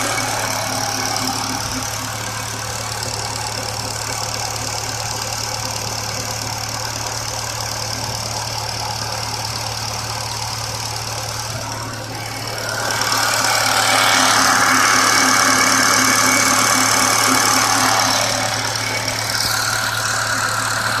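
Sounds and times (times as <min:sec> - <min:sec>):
car engine humming: 0:00.0 - 0:21.0
high-pitched engine noise: 0:00.0 - 0:21.0.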